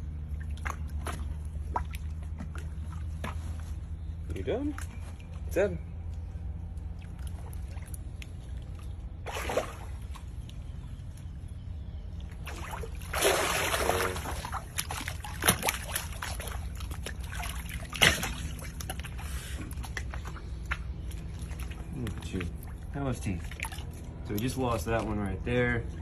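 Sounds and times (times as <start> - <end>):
water sloshing and splashing: 0.0 - 26.0.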